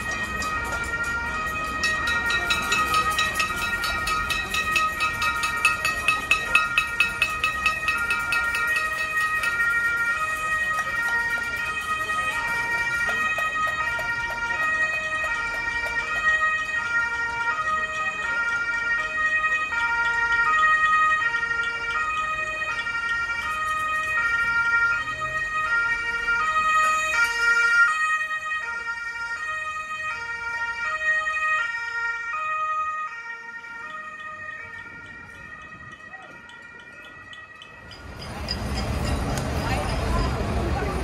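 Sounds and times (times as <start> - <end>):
two-tone emergency siren: 0.0 - 41.0.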